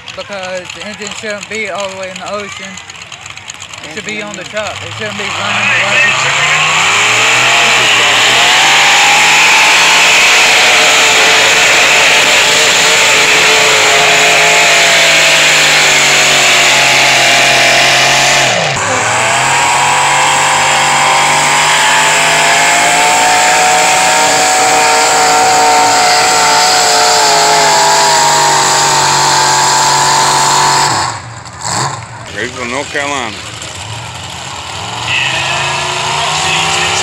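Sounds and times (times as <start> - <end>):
tractor engines running hard: 0.0 - 37.0.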